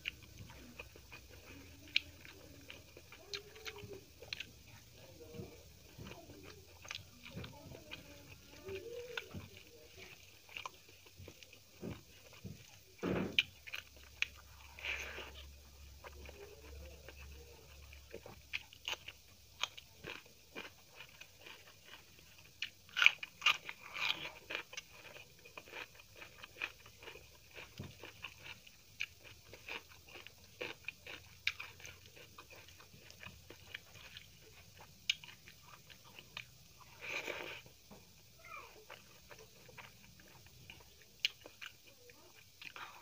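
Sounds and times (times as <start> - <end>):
rice being chewed: 0.0 - 43.0.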